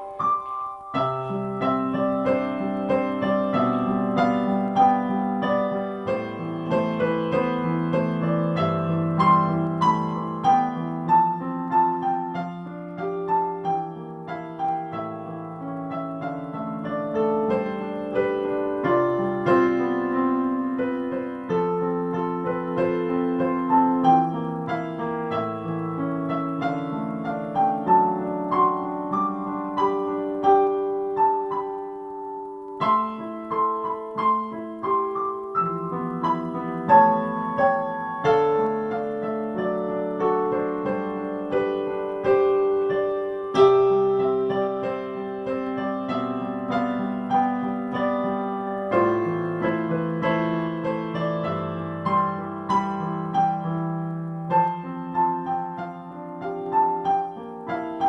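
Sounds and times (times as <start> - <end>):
solo piano music: 0.0 - 58.0.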